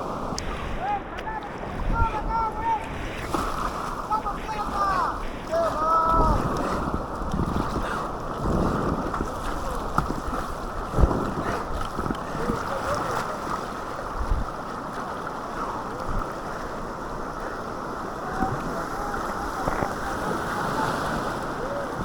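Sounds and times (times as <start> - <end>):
river water rushing: 0.0 - 22.0
wind buffeting microphone: 0.0 - 22.0.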